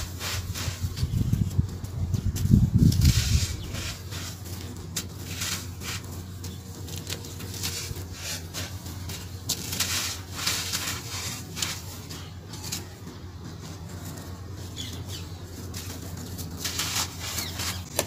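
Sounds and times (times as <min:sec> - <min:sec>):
gritty sand rustling: 0:00.0 - 0:18.0
steady low hum: 0:00.0 - 0:18.0.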